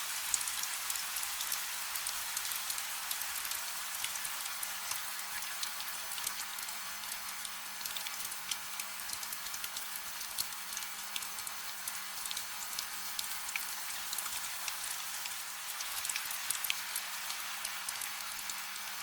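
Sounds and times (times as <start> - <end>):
gentle rain hiss: 0.0 - 19.0.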